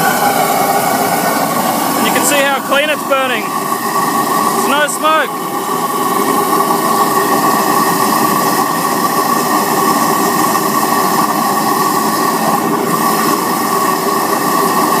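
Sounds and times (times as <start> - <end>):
oil burner roaring: 0.0 - 15.0.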